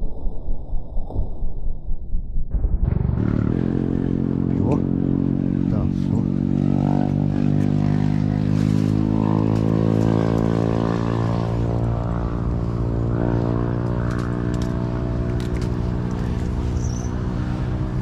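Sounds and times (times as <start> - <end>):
engine running steadily: 2.9 - 18.0.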